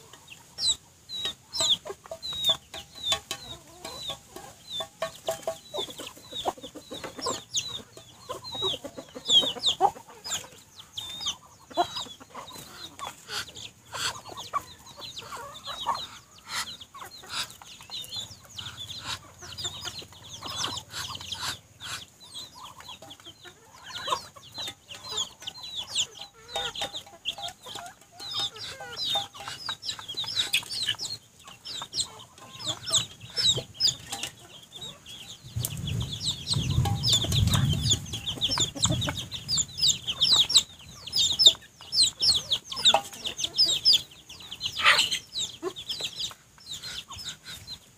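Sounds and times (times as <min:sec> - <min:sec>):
beaks pecking in feed bowl: 0:00.0 - 0:47.9
chicks peeping: 0:00.0 - 0:47.9
hen and rooster clucking: 0:00.0 - 0:47.9.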